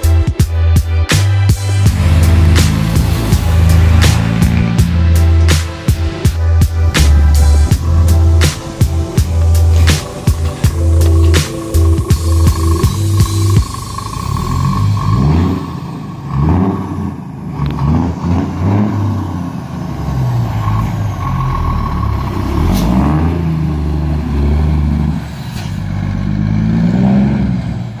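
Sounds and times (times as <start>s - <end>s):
truck diesel engine pulling away: 1.2s - 28.0s.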